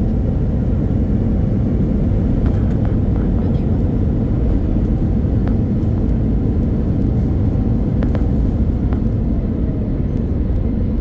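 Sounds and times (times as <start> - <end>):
airliner low rumble: 0.0 - 11.0.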